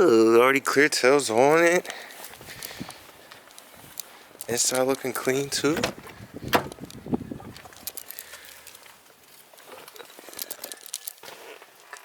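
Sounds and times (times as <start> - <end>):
faint rustling: 1.9 - 12.0.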